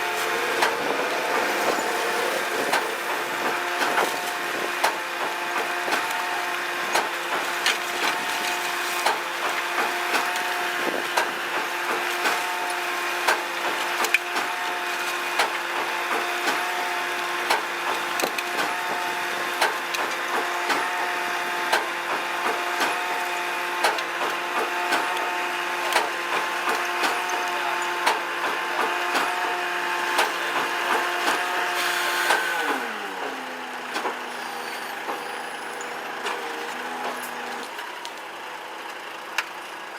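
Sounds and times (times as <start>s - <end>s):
hydraulic whine: 0.0s - 38.0s.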